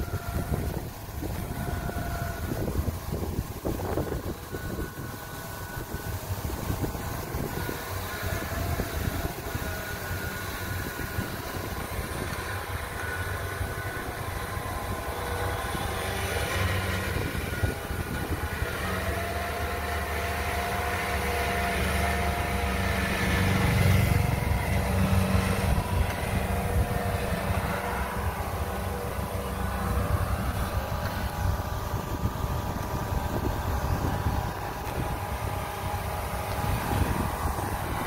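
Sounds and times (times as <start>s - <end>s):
diesel engine running: 0.0s - 38.0s
whirr of cutting gear: 0.0s - 38.0s.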